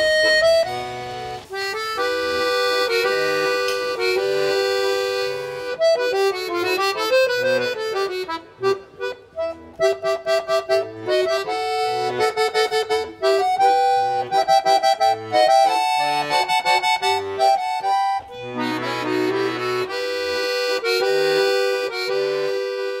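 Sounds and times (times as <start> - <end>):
lively accordion music: 0.0 - 23.0.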